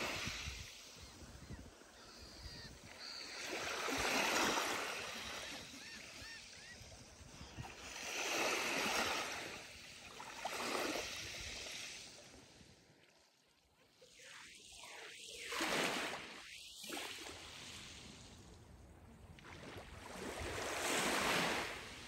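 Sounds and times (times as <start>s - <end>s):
gentle surf on a beach: 0.0s - 22.0s.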